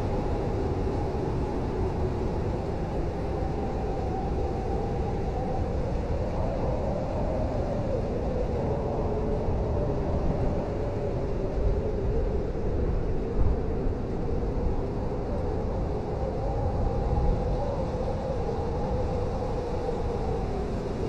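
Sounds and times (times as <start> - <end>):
blizzard wind howling: 0.0 - 21.0.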